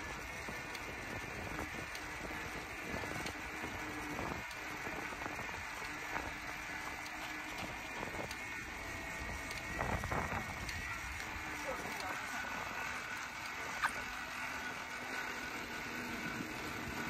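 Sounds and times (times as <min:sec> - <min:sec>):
bicycle tyre noise on rough path: 0:00.0 - 0:17.0
bike rattles and clicks: 0:00.0 - 0:17.0.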